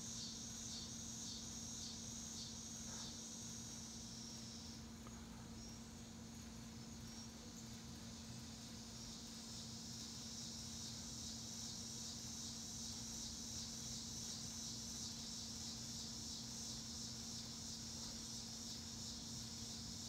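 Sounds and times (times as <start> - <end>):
faint low hum: 0.0 - 18.9
high-pitched insect chorus: 0.0 - 20.0.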